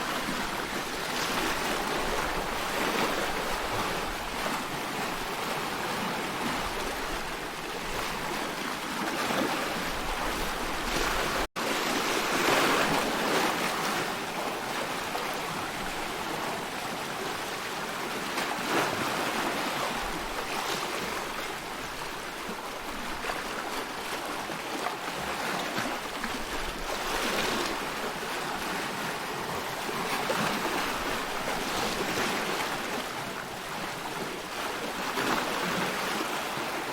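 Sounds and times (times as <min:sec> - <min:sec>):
ocean waves washing: 0:00.0 - 0:36.9.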